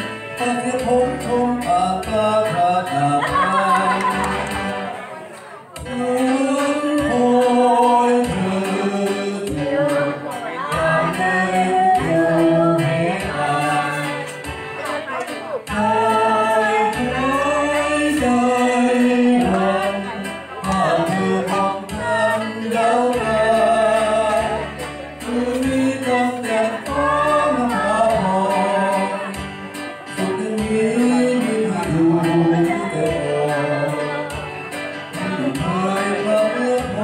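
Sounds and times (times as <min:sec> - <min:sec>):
man singing through speakers: 0:00.0 - 0:37.0
musical accompaniment: 0:00.0 - 0:37.0.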